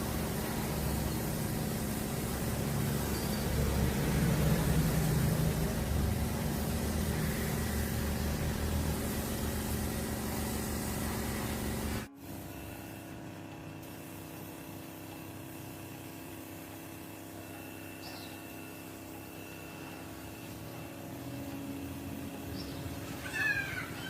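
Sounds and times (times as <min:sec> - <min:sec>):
electric air compressor running: 0:00.0 - 0:24.0
steady hum: 0:00.0 - 0:24.0.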